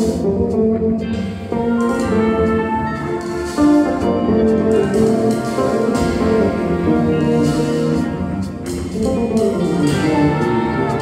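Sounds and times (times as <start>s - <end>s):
big band playing jazz: 0.0s - 11.0s.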